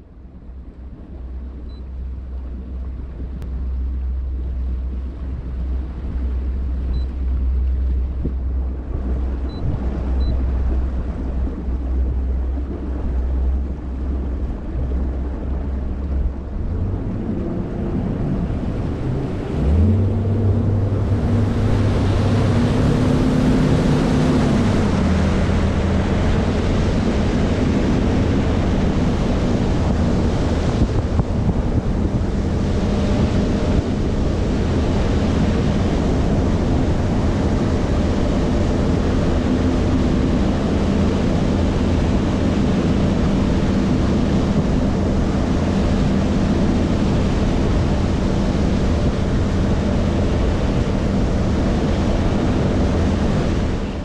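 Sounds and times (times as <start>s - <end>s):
outboard motor running: 0.0s - 54.0s
wind and water rushing: 0.0s - 54.0s.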